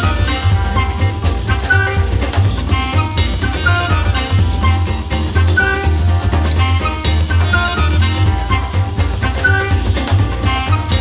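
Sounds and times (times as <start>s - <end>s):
upbeat music with drums and bass: 0.0s - 11.0s.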